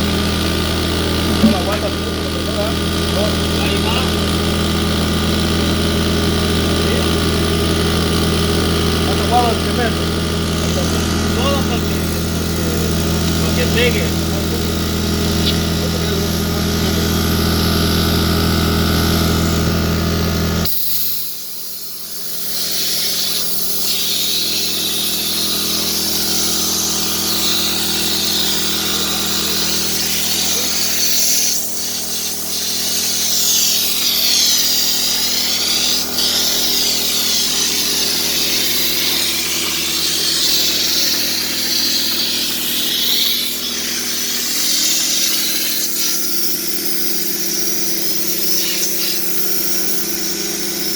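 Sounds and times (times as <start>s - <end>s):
motor humming: 0.0s - 50.9s.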